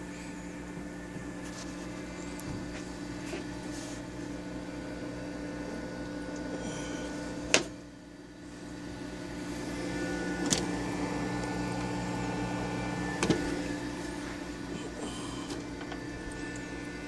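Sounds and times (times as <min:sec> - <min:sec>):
aquarium pump hum: 0:00.0 - 0:17.0.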